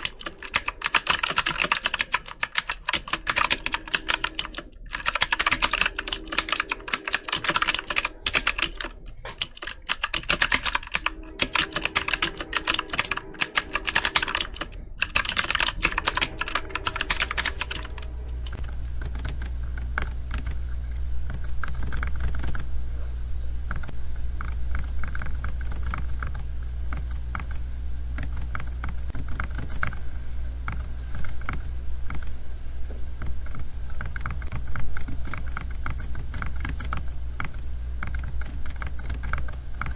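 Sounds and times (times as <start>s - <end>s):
computer keyboard typing: 0.0s - 22.7s, 23.7s - 30.0s, 30.7s - 32.3s, 33.2s - 39.9s
steady low hum: 0.0s - 39.9s.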